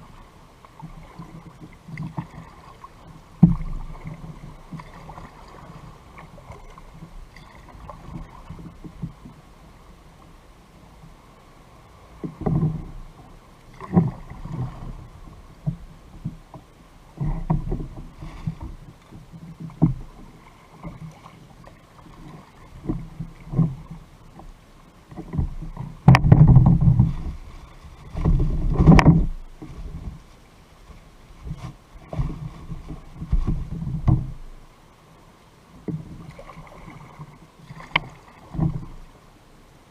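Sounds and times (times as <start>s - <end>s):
water splashing around kayak: 0.0s - 39.9s.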